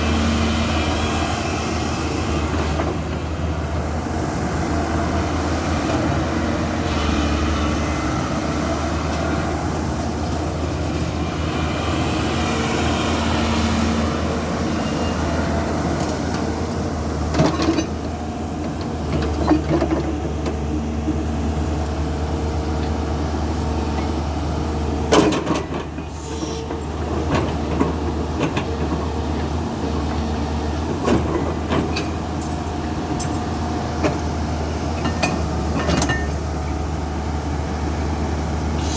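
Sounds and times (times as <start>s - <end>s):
excavator diesel engine hum: 0.0s - 38.9s.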